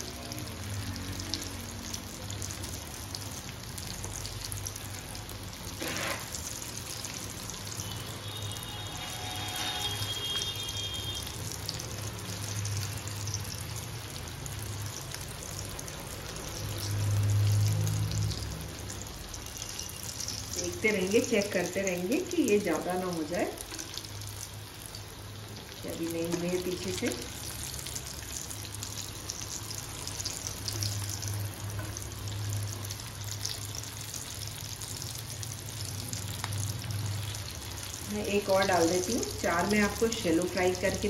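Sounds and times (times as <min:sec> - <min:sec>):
patties sizzling in oil: 0:00.0 - 0:41.0.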